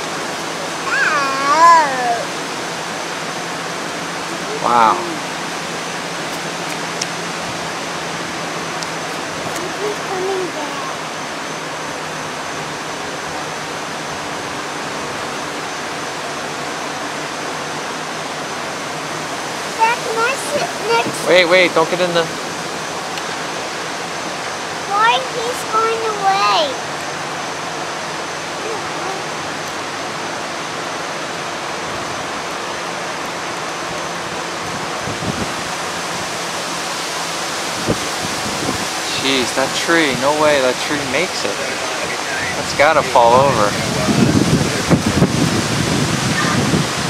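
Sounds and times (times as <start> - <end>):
flood water rushing: 0.0 - 47.0.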